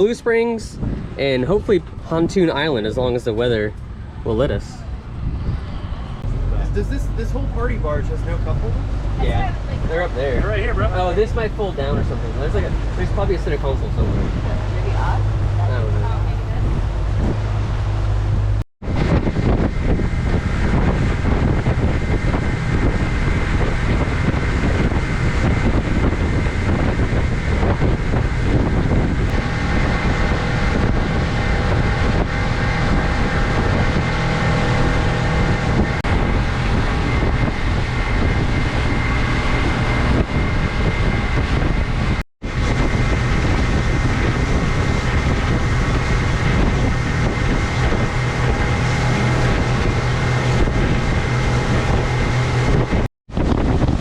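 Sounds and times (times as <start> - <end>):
outboard motor humming: 0.0 - 54.0
wind buffeting microphone: 0.0 - 54.0.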